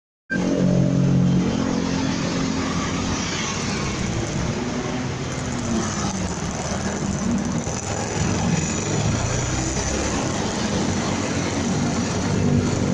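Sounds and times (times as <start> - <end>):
motorcycle engine: 0.3 - 12.9
wind and road noise: 0.3 - 12.9.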